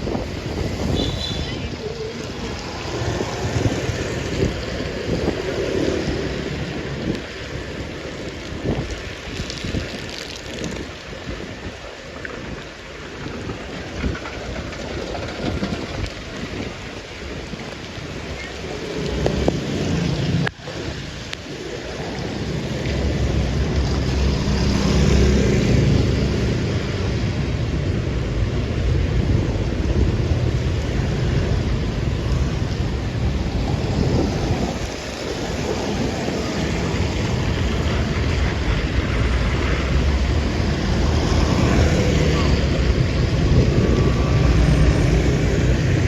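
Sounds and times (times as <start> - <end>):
tyres hissing on wet road: 0.0 - 46.0
vehicles passing: 0.0 - 46.0
wind rumble on microphone: 0.0 - 46.0.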